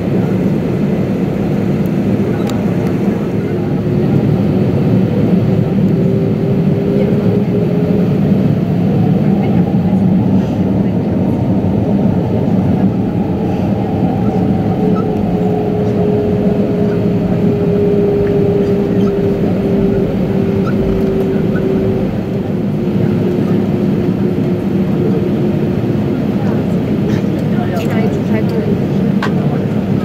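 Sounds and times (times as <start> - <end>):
jet engines idling drone: 0.0 - 30.0
steady cabin hum: 0.0 - 30.0.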